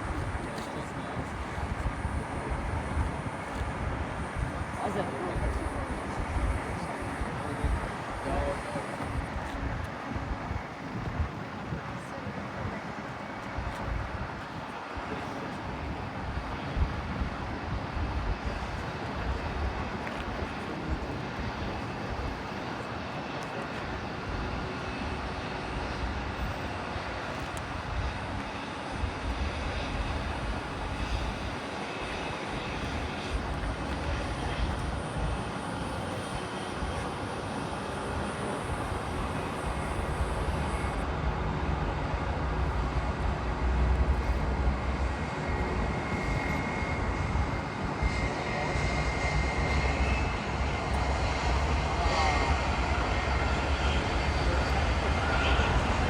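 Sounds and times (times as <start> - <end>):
distant jet airliner engines: 0.0 - 56.0.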